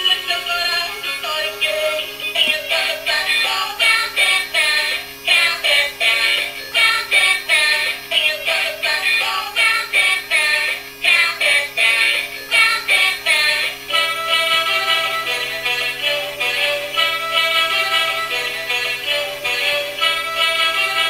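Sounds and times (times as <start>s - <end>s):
toy electronic song: 0.0s - 21.0s.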